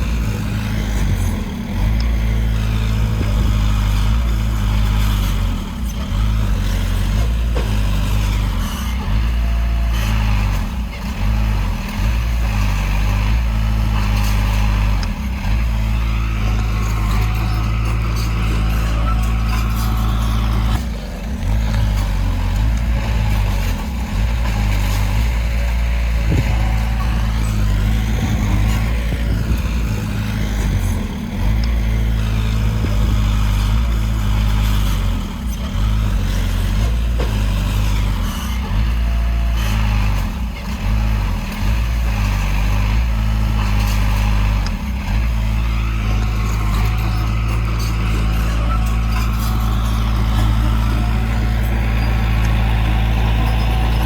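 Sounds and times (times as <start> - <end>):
deep diesel engine drone: 0.0 - 54.0.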